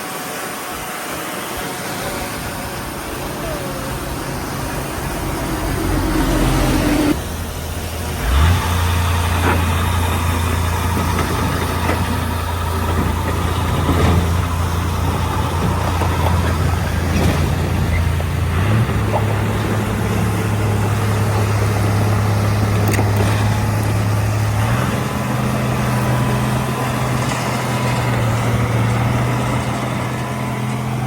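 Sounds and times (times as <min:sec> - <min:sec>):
heavy diesel engine revving: 0:01.7 - 0:31.0.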